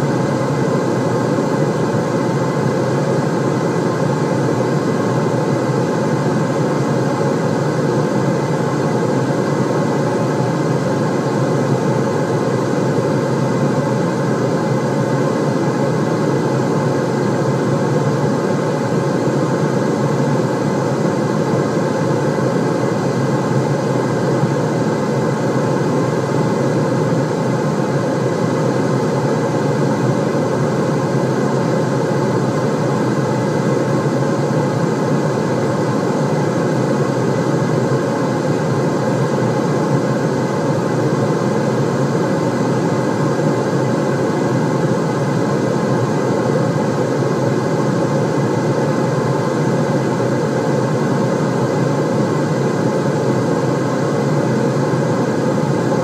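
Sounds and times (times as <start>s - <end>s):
low white noise rush: 0.0s - 56.0s.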